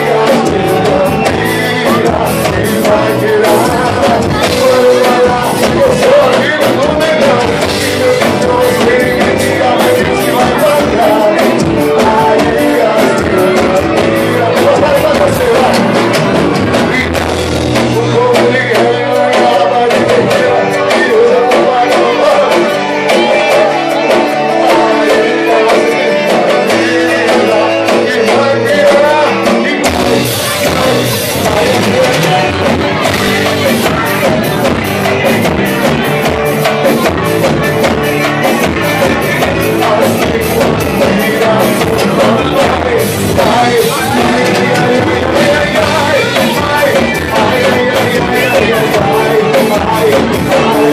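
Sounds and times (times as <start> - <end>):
bass: 0.0 - 50.9
drum beat: 0.0 - 50.9
guitar: 0.0 - 50.9
person singing: 0.0 - 50.9.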